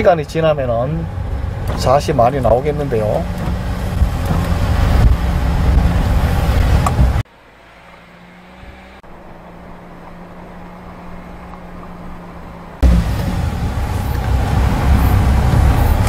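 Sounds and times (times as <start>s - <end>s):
low engine hum: 0.0s - 16.0s
vehicle engine and road noise: 0.0s - 16.0s.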